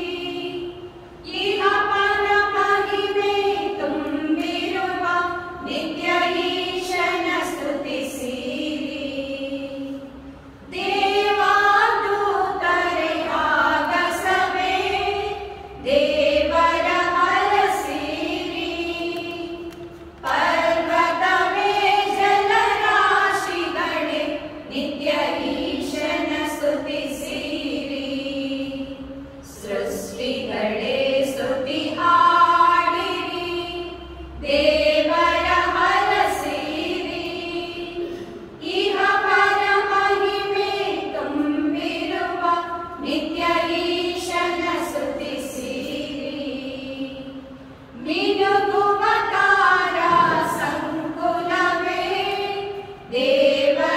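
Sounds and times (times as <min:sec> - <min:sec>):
women singing together: 0:00.0 - 0:53.9.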